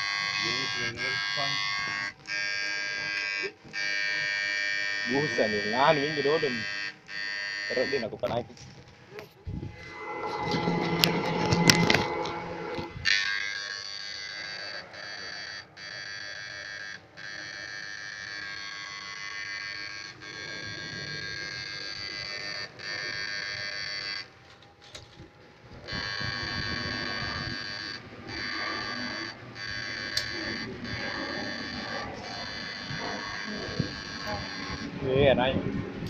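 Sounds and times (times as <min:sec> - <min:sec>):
electric fish-shocker whine: 0:00.0 - 0:08.4, 0:09.5 - 0:24.4, 0:25.4 - 0:36.0.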